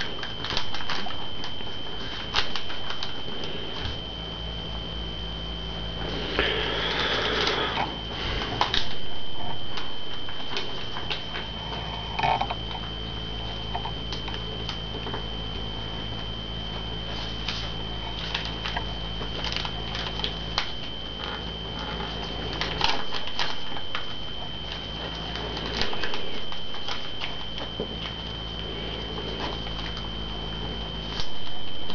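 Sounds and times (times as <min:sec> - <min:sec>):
paper crinkling and rustling: 0:00.0 - 0:04.4, 0:06.0 - 0:31.9
high-pitched whine: 0:00.0 - 0:31.9
low hum: 0:00.0 - 0:31.9.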